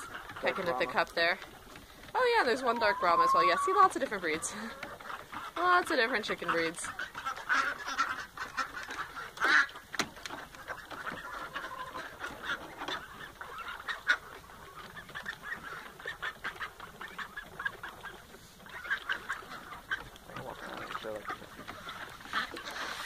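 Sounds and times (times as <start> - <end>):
chickens clucking: 0.0 - 23.0
ducks quacking: 0.0 - 23.0.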